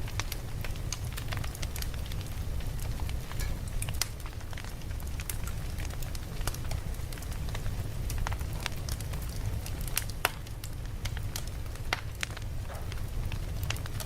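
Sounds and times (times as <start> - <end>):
campfire crackling and popping: 0.0 - 14.0
low rumble of fire: 0.0 - 14.0.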